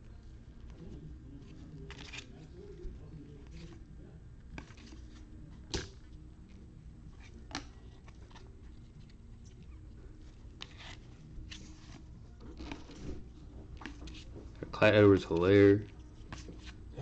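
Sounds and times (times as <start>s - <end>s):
steady low hum: 0.0s - 17.0s
trading cards rustling: 0.6s - 17.0s.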